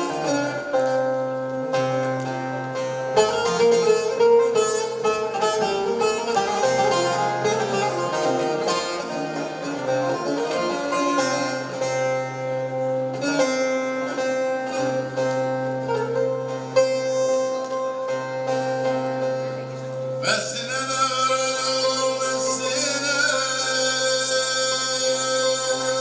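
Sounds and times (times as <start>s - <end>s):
plucked long-necked lute melody: 0.0s - 26.0s.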